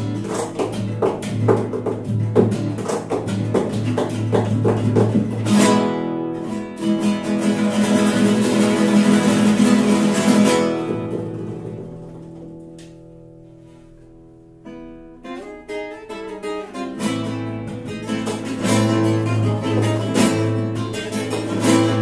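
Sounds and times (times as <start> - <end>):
classical guitar duet strumming: 0.0 - 22.0.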